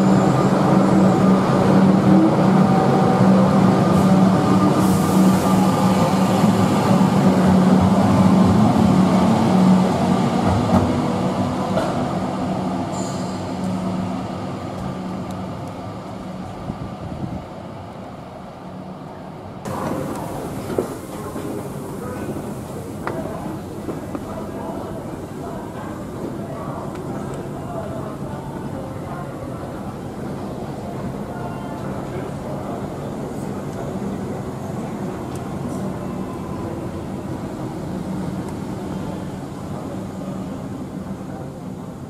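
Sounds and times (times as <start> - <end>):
electric train hum and rumble: 0.0 - 42.0.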